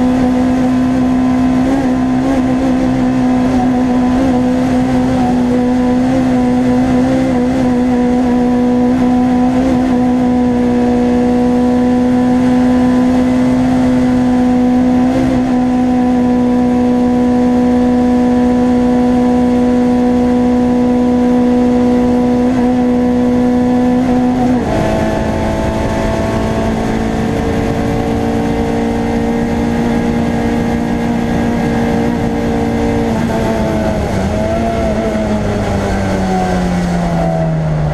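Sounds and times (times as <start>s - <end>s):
racing car engine from inside: 0.0s - 37.9s.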